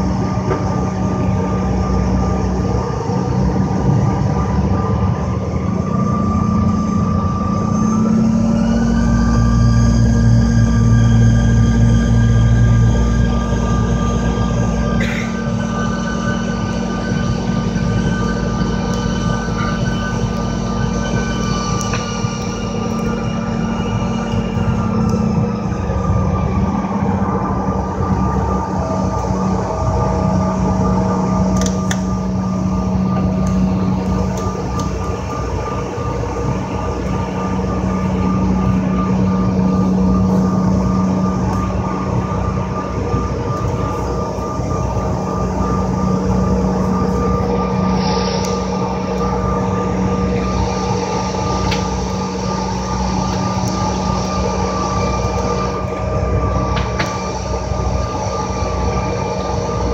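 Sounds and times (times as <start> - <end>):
jet engine low drone: 0.0 - 59.9
thin steady whines: 0.0 - 59.9.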